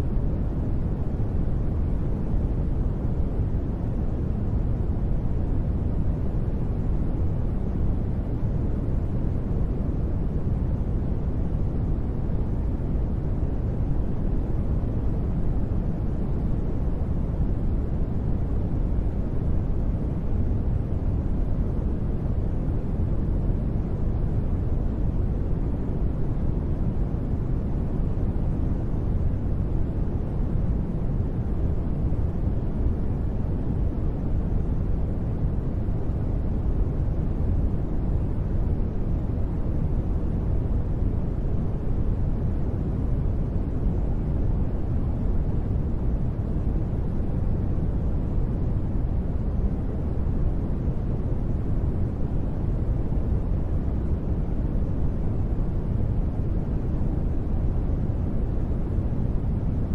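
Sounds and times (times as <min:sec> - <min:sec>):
deep rumbly white noise: 0:00.0 - 0:59.9.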